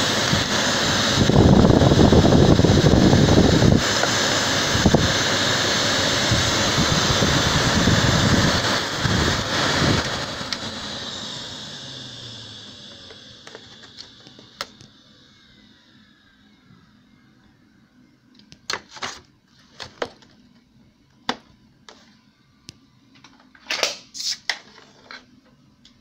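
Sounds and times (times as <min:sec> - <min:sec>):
vacuum cleaner running: 0:00.0 - 0:22.6.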